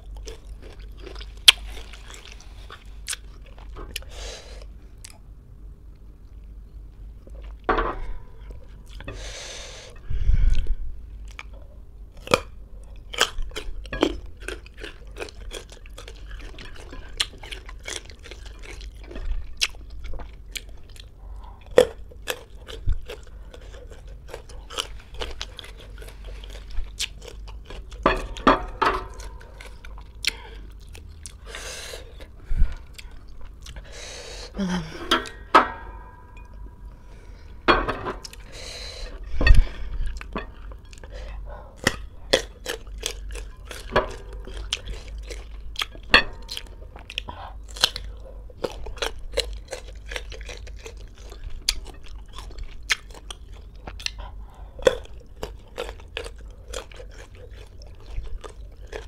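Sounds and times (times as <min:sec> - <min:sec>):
chewing and crunching fruit: 0:00.0 - 0:05.3, 0:08.3 - 0:59.0.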